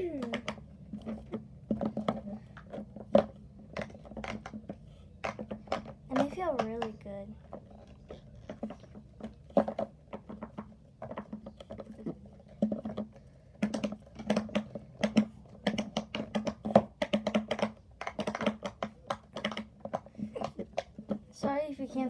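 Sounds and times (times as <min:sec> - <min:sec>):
fidget toy popping: 0:00.0 - 0:22.0.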